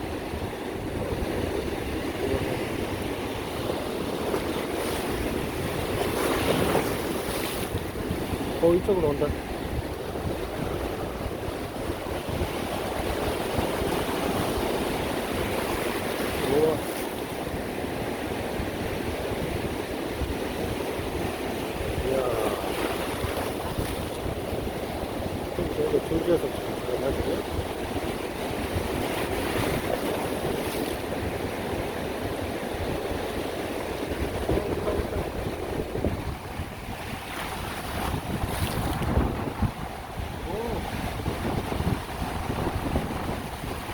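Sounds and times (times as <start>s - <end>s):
sea waves breaking on shore: 0.0s - 43.9s
wind buffeting microphone: 0.0s - 43.9s.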